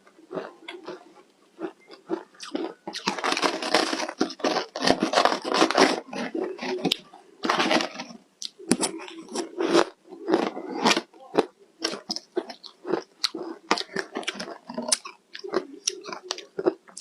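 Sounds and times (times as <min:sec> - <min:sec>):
ice crunching between teeth: 0:00.3 - 0:17.0.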